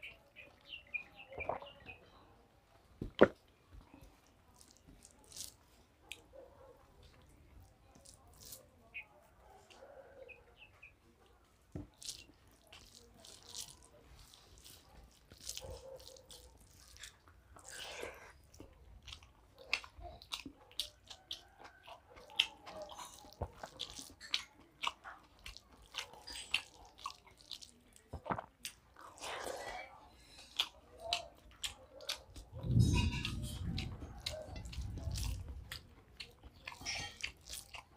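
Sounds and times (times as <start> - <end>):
person chewing food: 3.0 - 8.8, 11.5 - 37.9.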